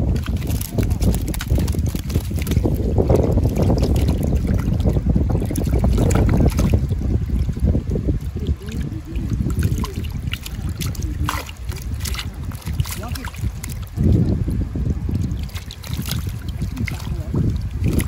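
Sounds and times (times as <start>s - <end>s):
fish splashing in a net: 0.0s - 18.0s
rumble of moving water: 0.0s - 18.0s
wind on microphone: 0.0s - 18.0s.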